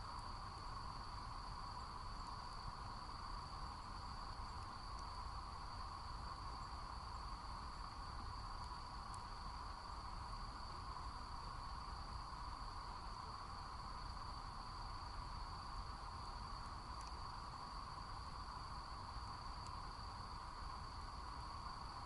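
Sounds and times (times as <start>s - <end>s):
insects trilling: 0.0s - 22.0s
low steady hiss: 0.0s - 22.0s
faint ticks: 1.7s - 22.0s.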